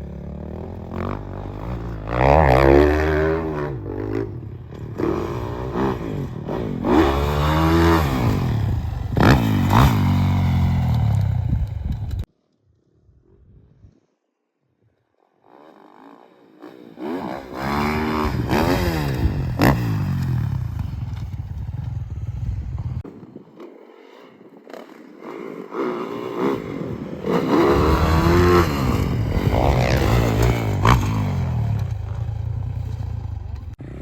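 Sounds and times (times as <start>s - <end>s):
dirt bike engine revving: 0.0s - 12.2s, 15.5s - 23.0s, 24.7s - 34.0s.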